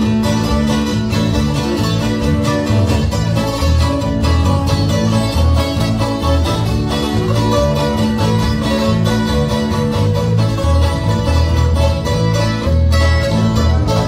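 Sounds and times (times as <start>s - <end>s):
live dance band playing: 0.0s - 14.0s
repeating bass beat: 0.1s - 14.0s.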